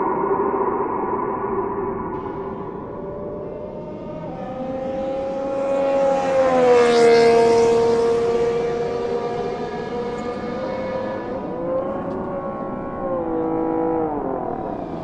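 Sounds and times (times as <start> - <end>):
race car engine passing: 2.2 - 15.0.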